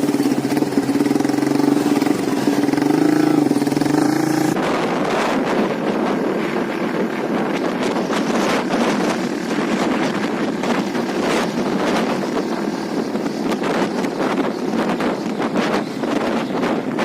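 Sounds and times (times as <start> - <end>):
vehicle engine running: 0.0 - 16.1
wind noise on microphone: 0.0 - 17.0.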